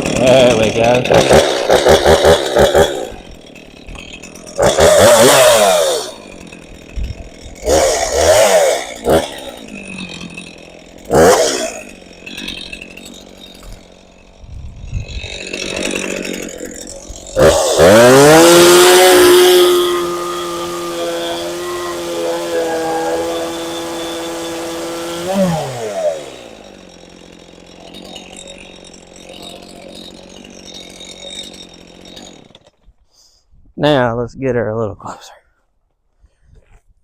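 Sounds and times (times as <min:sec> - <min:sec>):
chainsaw revving and idling: 0:00.0 - 0:33.3.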